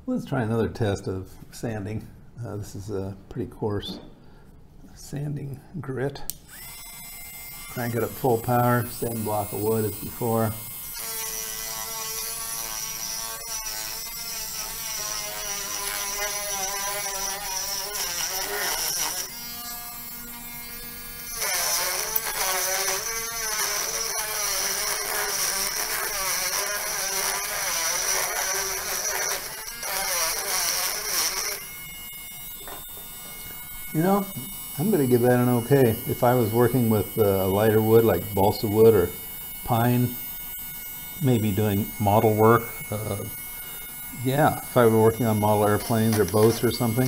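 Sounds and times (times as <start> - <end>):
rotary tool sanding wood: 6.5 - 40.4, 41.1 - 47.0.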